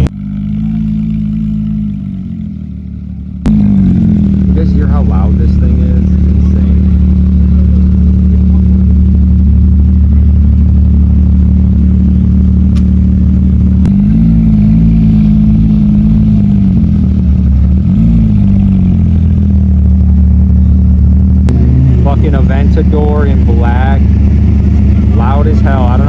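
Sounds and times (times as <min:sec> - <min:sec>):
car exhaust idling and revving: 0:00.0 - 0:26.0.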